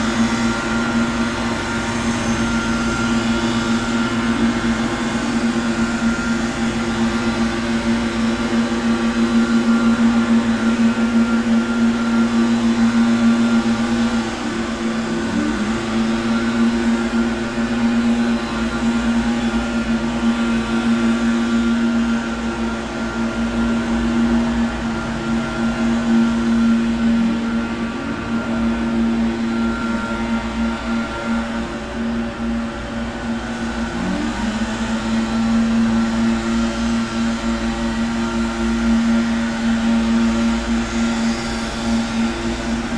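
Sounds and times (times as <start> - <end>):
garden machine motor drone: 0.0 - 42.9.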